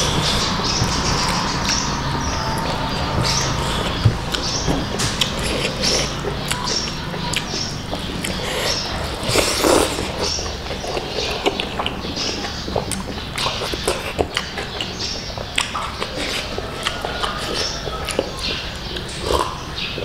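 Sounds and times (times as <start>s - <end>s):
wet chewing and lip smacks: 2.5s - 19.6s.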